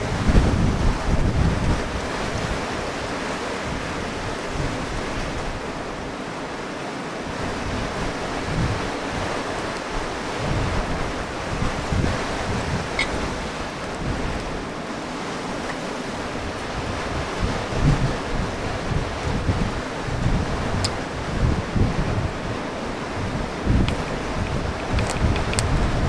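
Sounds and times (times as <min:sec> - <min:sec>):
wind buffeting microphone: 0:00.0 - 0:06.2, 0:07.2 - 0:26.0
sea waves washing onto shore: 0:00.0 - 0:26.0.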